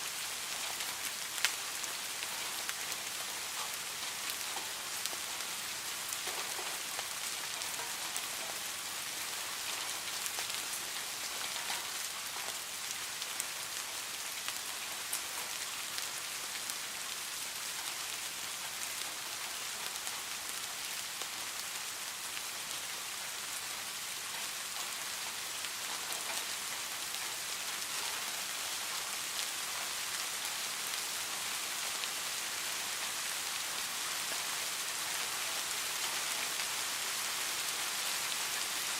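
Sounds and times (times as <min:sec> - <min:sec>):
rain falling: 0:00.0 - 0:38.9
raindrops ticking on a surface: 0:00.1 - 0:38.9.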